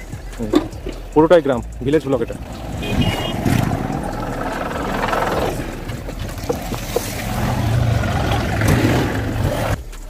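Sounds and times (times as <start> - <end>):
traffic engine rumble: 0.0 - 10.0.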